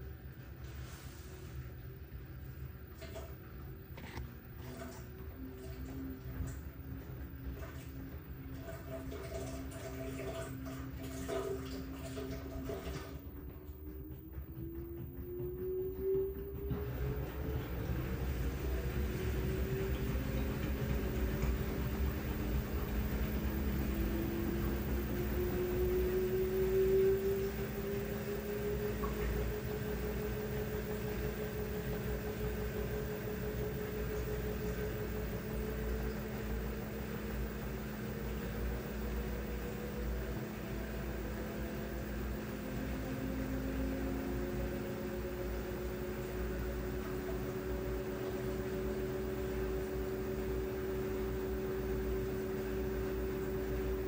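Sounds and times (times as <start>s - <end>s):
steady low hum: 0.0s - 54.0s
washing machine motor whine: 0.0s - 54.0s.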